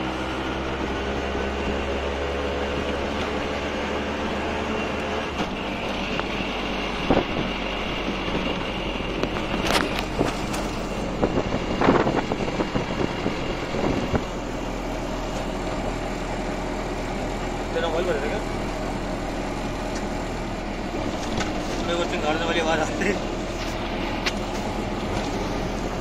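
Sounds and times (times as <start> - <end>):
auto-rickshaw engine running: 0.0 - 26.0.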